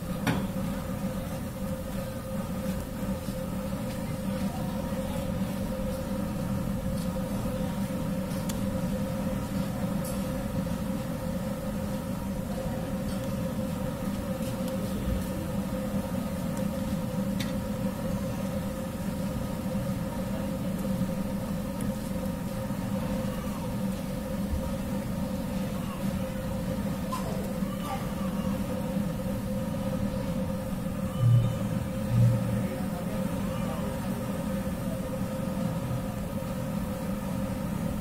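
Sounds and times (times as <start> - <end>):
mechanical hum: 0.0 - 38.0.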